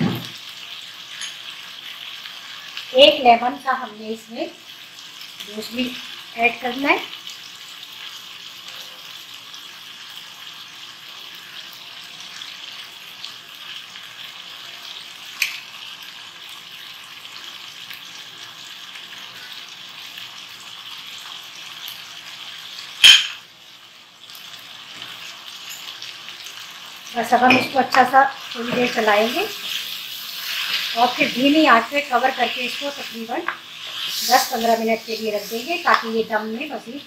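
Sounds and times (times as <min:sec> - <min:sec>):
food sizzling in a wok: 0:00.0 - 0:37.0.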